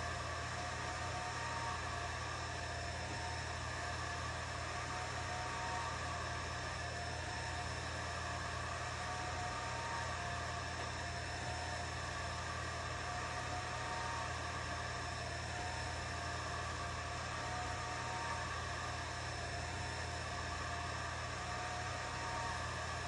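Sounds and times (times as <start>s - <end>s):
fan whir and hum: 0.0s - 23.0s
motor whine stepping pitch: 0.0s - 23.0s.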